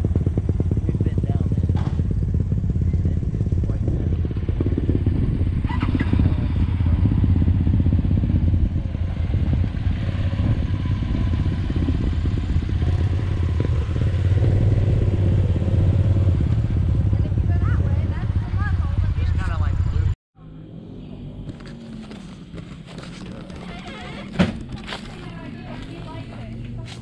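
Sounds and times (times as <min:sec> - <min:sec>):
vehicle engine running at low revs: 0:00.0 - 0:27.0.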